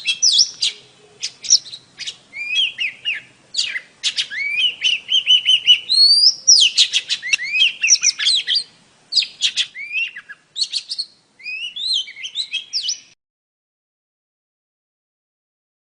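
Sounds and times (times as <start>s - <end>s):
bird whistling song: 0.0s - 13.2s.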